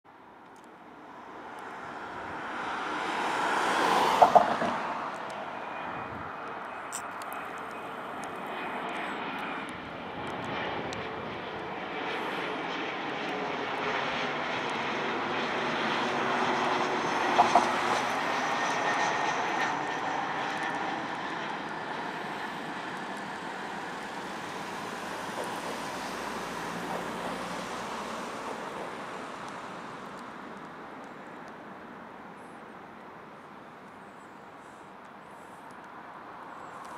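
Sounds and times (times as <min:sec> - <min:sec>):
jet engine rumble with whine: 0:00.4 - 0:03.6, 0:04.2 - 0:32.8.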